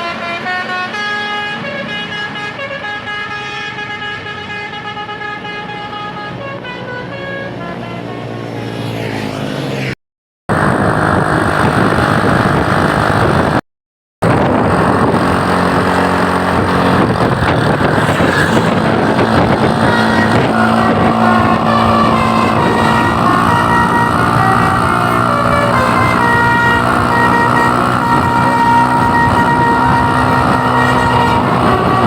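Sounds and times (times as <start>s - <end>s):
vehicles moving at speed: 0.0s - 13.6s, 14.2s - 32.0s.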